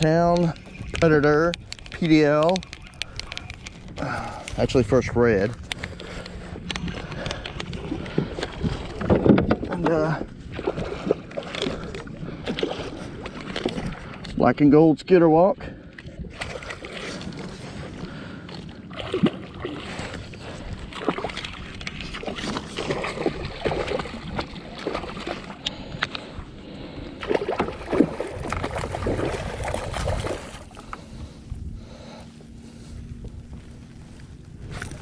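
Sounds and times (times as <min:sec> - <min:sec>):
water splashing against kayak: 0:00.0 - 0:14.4, 0:15.6 - 0:35.0.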